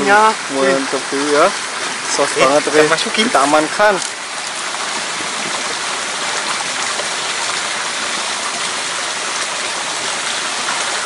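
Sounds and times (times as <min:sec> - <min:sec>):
water flowing in a stream: 0:00.0 - 0:11.0.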